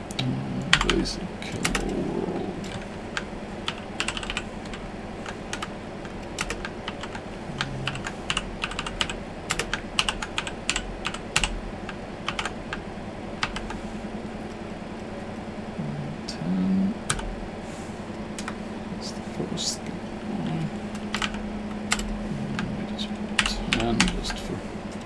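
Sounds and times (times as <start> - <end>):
short low hum: 0.0 - 25.0.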